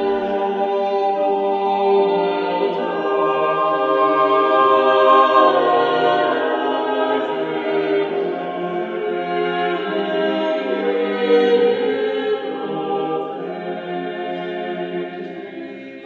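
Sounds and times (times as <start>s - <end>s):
choir holding slow chords: 0.0s - 16.0s.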